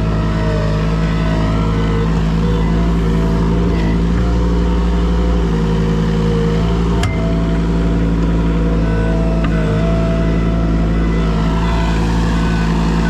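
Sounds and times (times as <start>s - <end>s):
motor engine running steadily: 0.0s - 13.0s.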